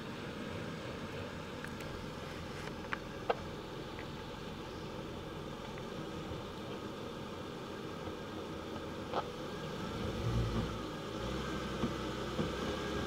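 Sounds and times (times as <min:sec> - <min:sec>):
suv engine running at low revs: 0:00.0 - 0:13.0.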